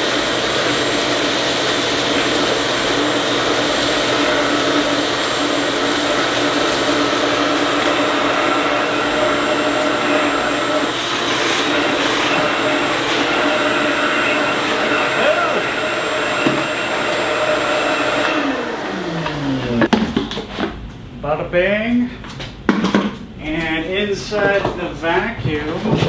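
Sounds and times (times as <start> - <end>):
shop vac roaring: 0.0 - 26.0.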